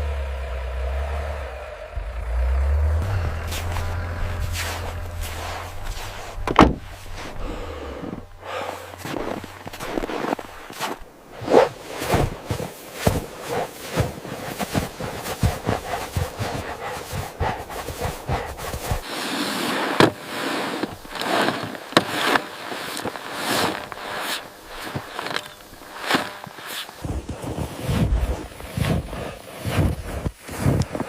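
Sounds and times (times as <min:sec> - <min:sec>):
irregular crunches and knocks: 0:03.0 - 0:19.1, 0:19.7 - 0:31.0.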